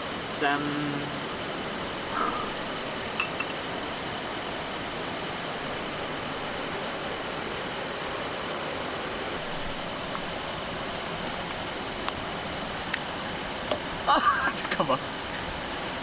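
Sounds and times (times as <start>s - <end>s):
fast-flowing stream rushing: 0.0s - 16.0s.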